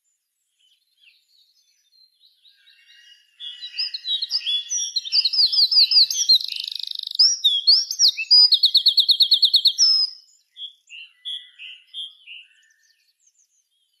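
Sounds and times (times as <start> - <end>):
wren singing: 0.5 - 14.0.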